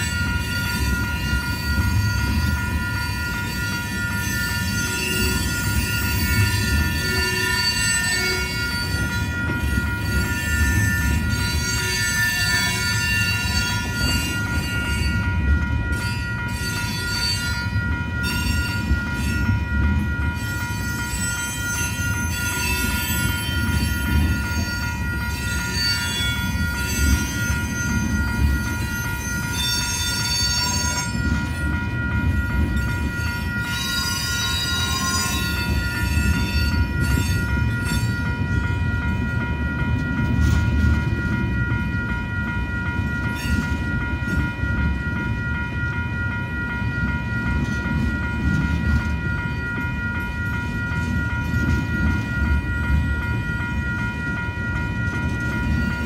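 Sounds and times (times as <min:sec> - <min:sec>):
crossing warning bell ringing: 0:00.0 - 0:56.0
train wheels rumbling on rails: 0:00.0 - 0:56.0.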